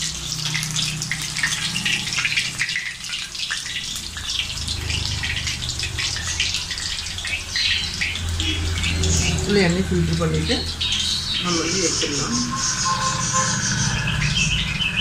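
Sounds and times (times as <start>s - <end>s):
oil bubbling and sizzling: 0.0s - 15.0s.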